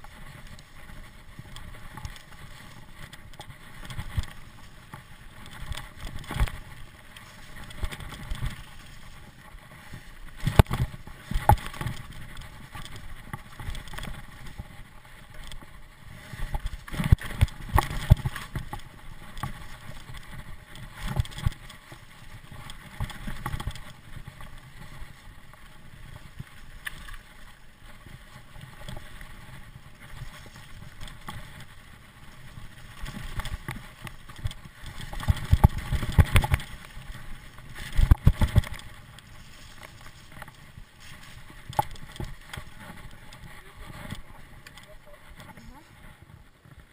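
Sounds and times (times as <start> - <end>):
bike rattling over roots: 0.0 - 46.9
bike tyre noise: 0.0 - 46.9
wind on microphone: 0.0 - 46.9.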